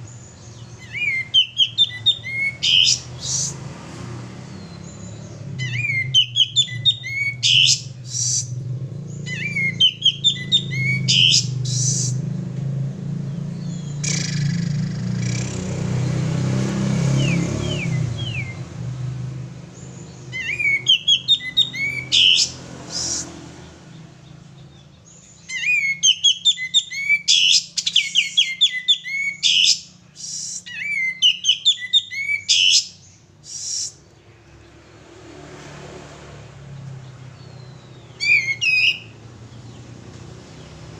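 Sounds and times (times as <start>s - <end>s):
songbird chattering chirps: 0.0s - 3.6s, 4.4s - 12.5s, 13.1s - 16.3s, 17.1s - 18.8s, 19.6s - 34.8s, 36.7s - 40.9s.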